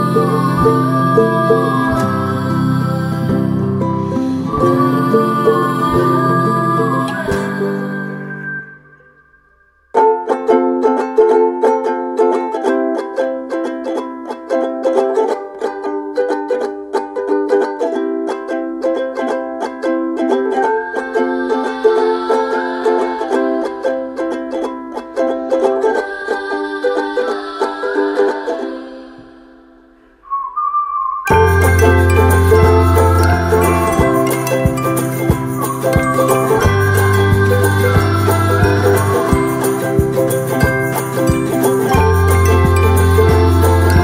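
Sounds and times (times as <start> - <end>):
plucked string instrument: 0.0 - 30.2, 31.3 - 44.0.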